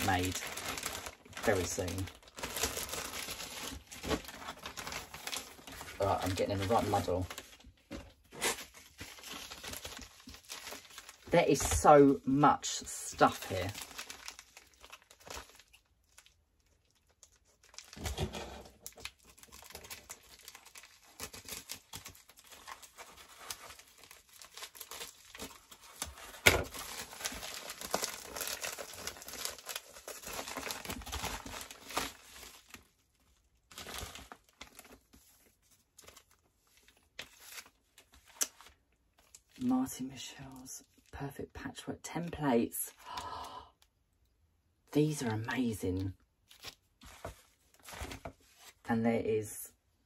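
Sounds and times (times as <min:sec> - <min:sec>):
packaging rustling and crinkling: 0:00.0 - 0:39.6, 0:46.4 - 0:48.9.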